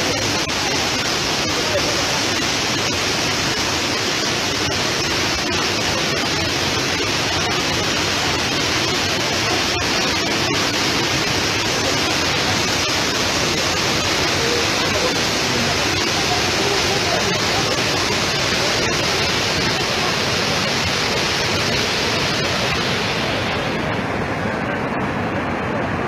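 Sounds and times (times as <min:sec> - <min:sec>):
floodwater rushing over waterfall: 0:00.0 - 0:26.0.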